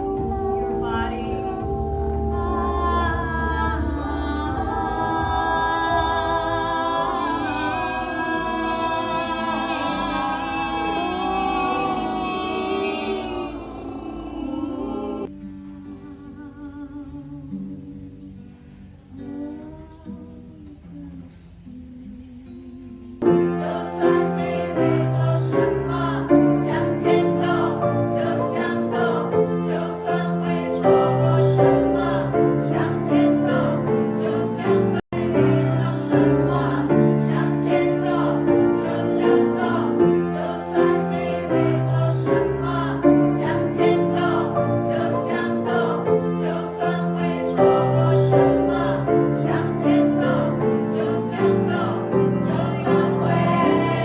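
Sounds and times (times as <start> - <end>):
choir singing over a beat: 0.0 - 15.3, 23.2 - 54.0.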